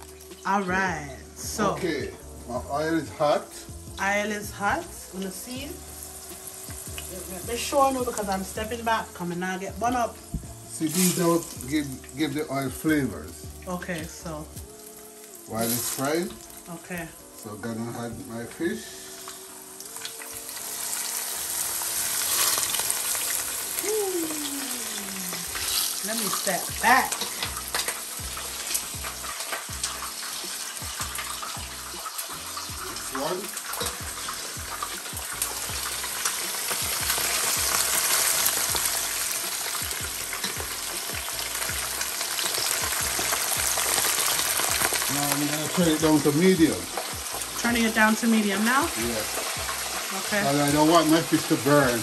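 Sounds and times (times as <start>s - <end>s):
fish sizzling in oil: 0.0s - 52.0s.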